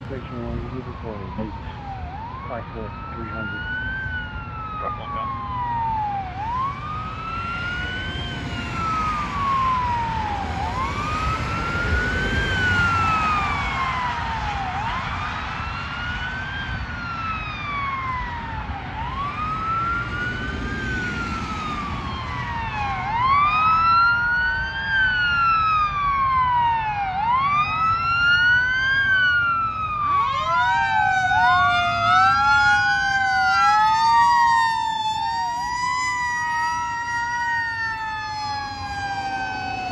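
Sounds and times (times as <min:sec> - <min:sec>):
sirens wailing: 0:00.0 - 0:39.9.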